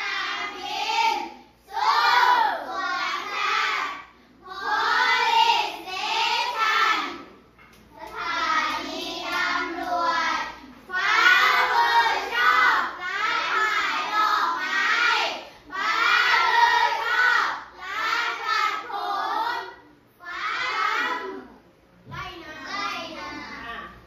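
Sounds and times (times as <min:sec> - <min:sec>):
children singing in unison: 0:00.0 - 0:07.2, 0:08.0 - 0:21.4.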